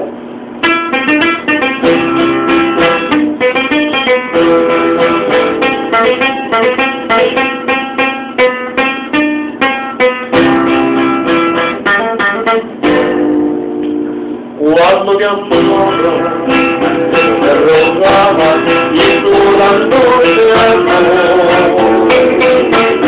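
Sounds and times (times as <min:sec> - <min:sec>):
acoustic guitar picked melody: 0:00.0 - 0:23.0.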